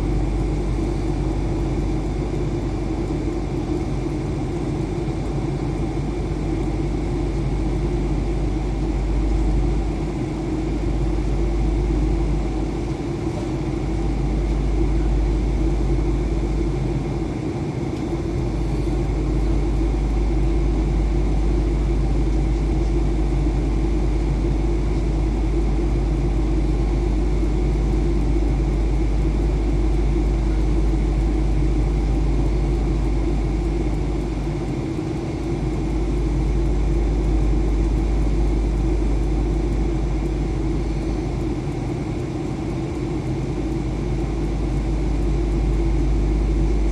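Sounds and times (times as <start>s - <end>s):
airplane cabin engine rumble: 0.0s - 46.9s
constant hum: 0.0s - 46.9s.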